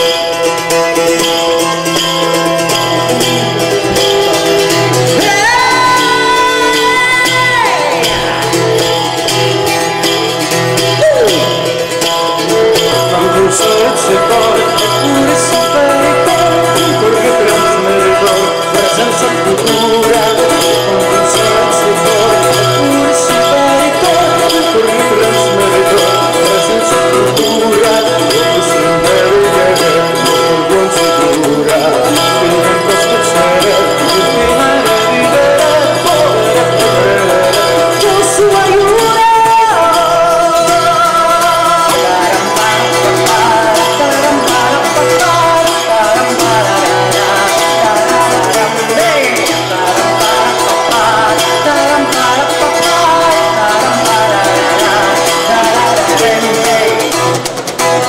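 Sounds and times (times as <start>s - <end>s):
man singing: 0.0s - 58.0s
mandolin plucked and strummed: 0.0s - 58.0s.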